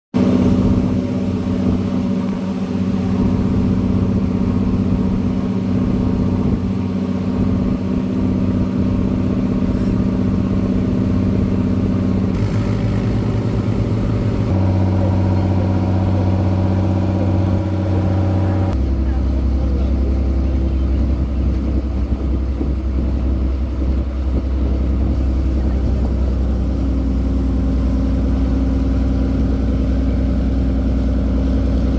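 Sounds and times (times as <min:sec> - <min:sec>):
engine running: 0:00.2 - 0:31.9.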